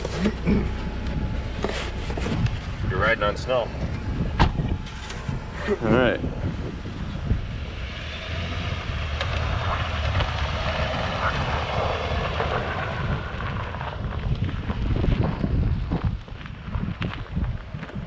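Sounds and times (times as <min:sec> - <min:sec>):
vehicle engine running: 0:00.0 - 0:16.5
high-pitched whine: 0:00.0 - 0:16.6.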